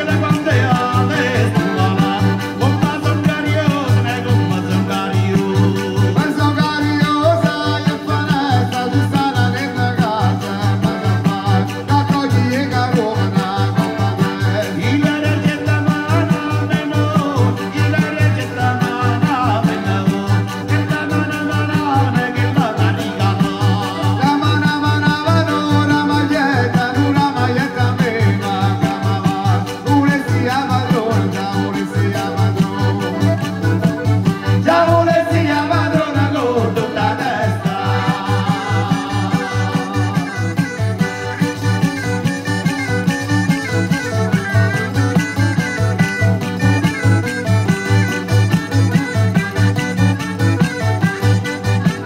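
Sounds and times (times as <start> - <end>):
accordion: 0.0 - 52.0
acoustic guitar: 0.0 - 52.0
folk dance music: 0.0 - 52.0
sliding melody line: 0.0 - 52.0
steady beat: 0.0 - 52.0.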